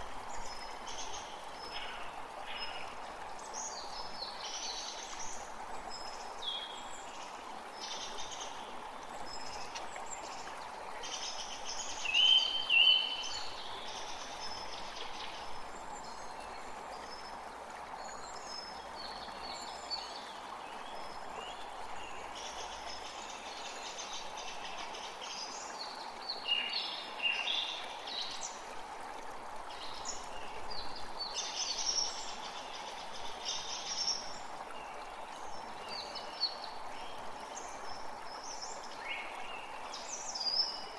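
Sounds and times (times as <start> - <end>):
creek running: 0.0 - 40.9.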